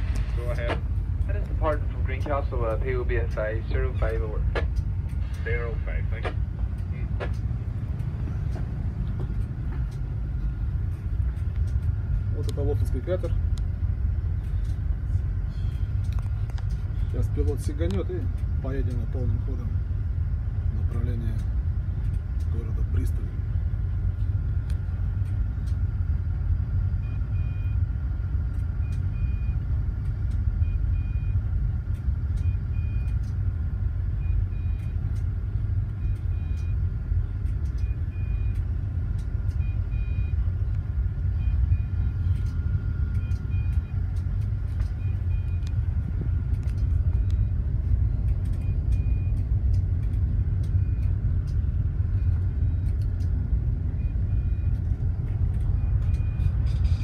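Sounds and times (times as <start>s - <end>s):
ship engine low rumble: 0.0s - 57.0s.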